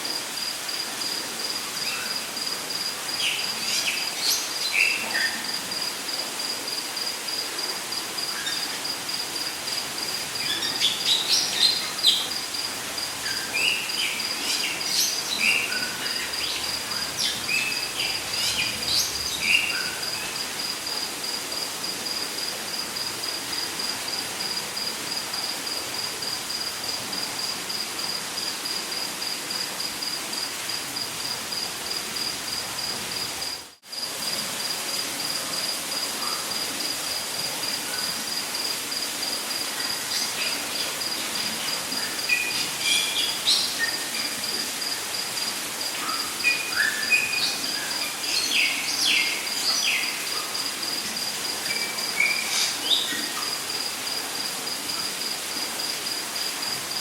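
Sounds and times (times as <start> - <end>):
constant hiss: 0.0 - 57.0
high insect trill: 0.0 - 57.0.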